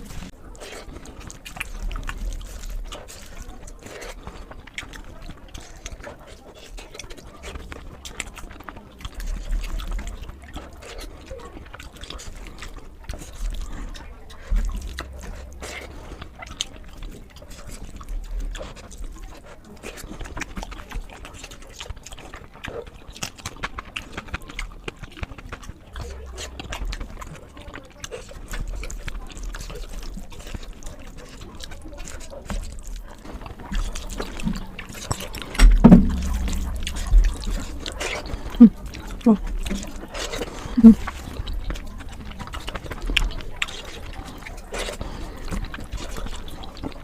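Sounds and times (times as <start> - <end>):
wet chewing and mouth smacking: 0.0 - 47.0.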